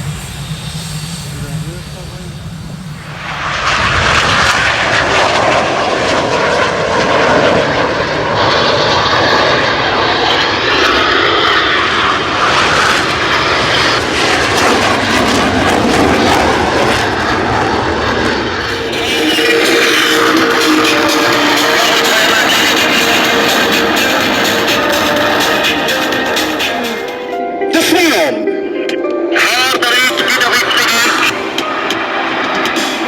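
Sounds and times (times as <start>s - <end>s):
jet aircraft flying past: 0.0s - 33.0s.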